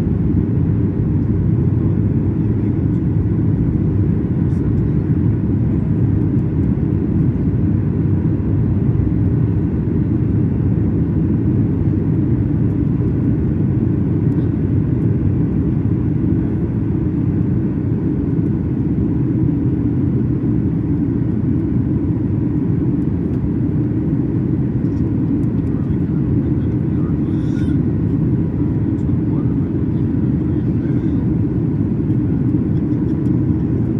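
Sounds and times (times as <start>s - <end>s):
airplane engines rumbling in cabin: 0.0s - 33.9s.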